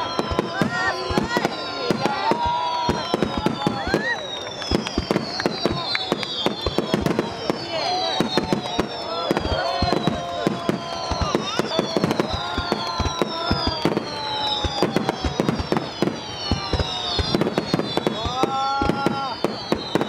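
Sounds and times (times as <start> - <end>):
fireworks bangs and crackles: 0.0 - 20.0
fireworks whistling: 0.0 - 20.0.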